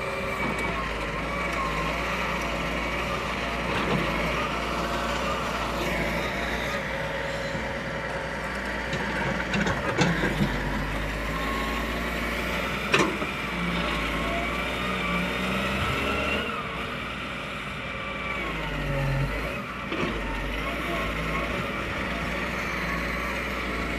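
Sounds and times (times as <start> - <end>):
heavy vehicle engine running: 0.0 - 23.9.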